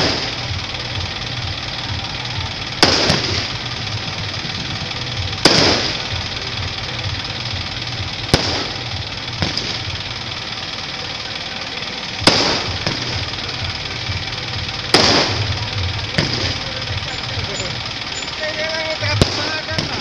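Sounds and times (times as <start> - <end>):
firework shells bursting: 0.0 - 20.0
steady background noise: 0.0 - 20.0.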